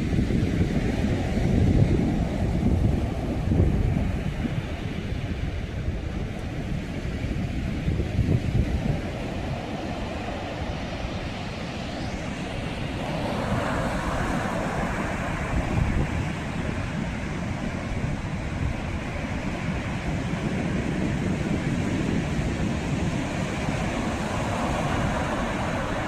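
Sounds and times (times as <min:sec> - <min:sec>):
sea waves breaking: 0:00.0 - 0:26.0
wind buffeting microphone: 0:00.0 - 0:26.0.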